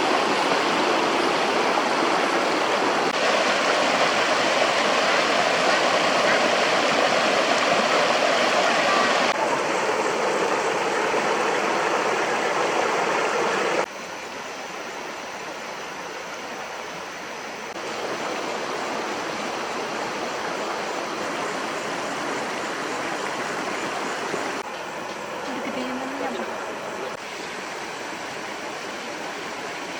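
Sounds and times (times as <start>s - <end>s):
stream water flowing: 0.0s - 29.9s.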